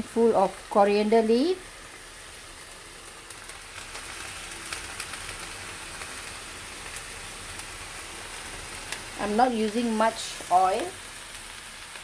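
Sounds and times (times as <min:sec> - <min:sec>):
vegetables sizzling in oil: 0:00.0 - 0:12.0
sharp crackles: 0:02.2 - 0:12.0.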